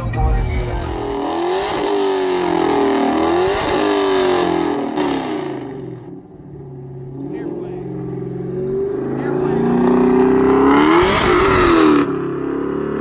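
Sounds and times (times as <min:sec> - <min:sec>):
heavy bass music: 0:00.0 - 0:12.1
car engine revving: 0:00.0 - 0:13.0.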